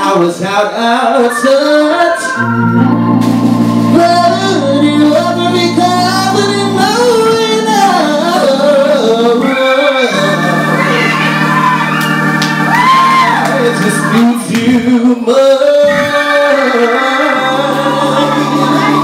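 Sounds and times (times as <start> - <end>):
man singing into microphone: 0.0 - 2.9, 3.9 - 11.1, 13.5 - 19.0
organ-toned keyboard chords: 0.0 - 19.0.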